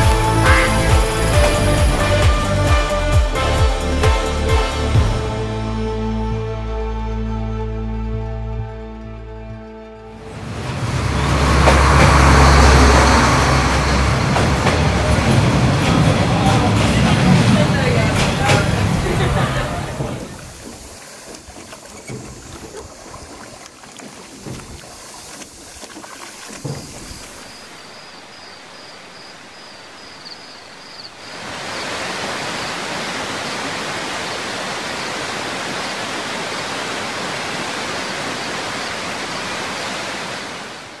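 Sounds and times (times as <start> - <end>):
stream water rushing: 0.0 - 5.6, 10.1 - 41.0.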